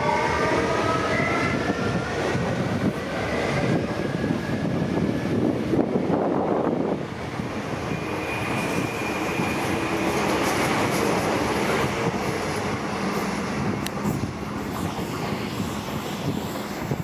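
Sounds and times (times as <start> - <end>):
train wheels rolling on rail: 0.0 - 17.0.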